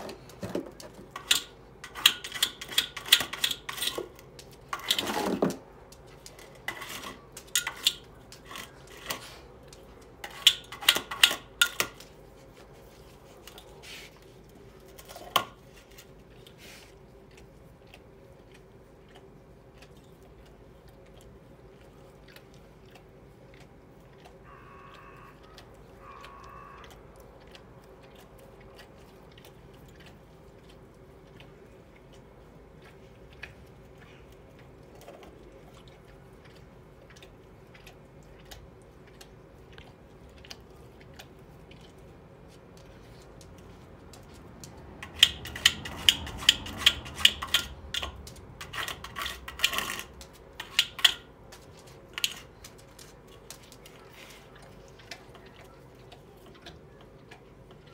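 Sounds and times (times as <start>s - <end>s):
dog licking ice: 0.1s - 57.9s.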